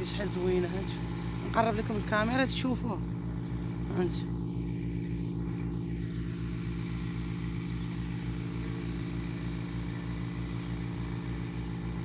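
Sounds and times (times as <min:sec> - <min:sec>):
pump engine chugging: 0:00.0 - 0:12.0.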